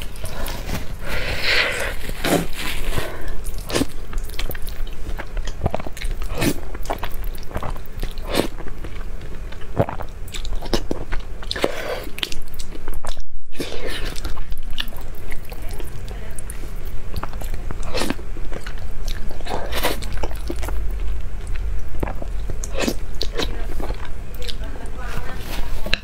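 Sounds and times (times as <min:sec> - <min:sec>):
slurping and chewing noodles: 0:00.0 - 0:26.0.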